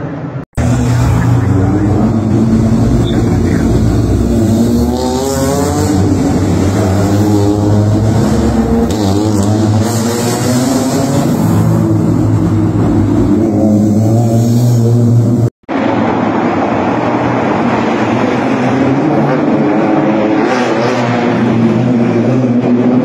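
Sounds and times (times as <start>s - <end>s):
car engine revving: 0.6s - 23.0s.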